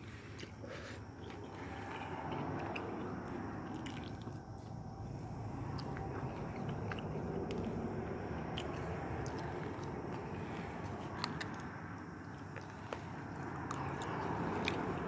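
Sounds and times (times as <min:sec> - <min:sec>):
restaurant low rumble: 0:00.0 - 0:15.0.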